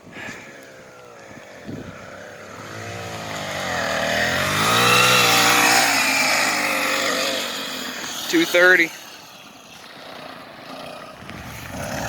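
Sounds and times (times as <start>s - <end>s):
small gas engine revving: 0.0s - 12.0s.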